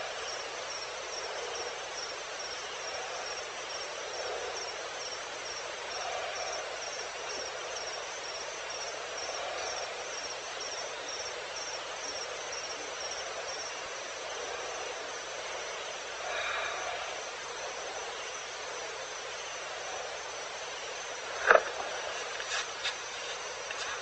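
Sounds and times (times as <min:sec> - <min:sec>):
background hiss: 0:00.0 - 0:24.0
insect chirping: 0:00.0 - 0:24.0.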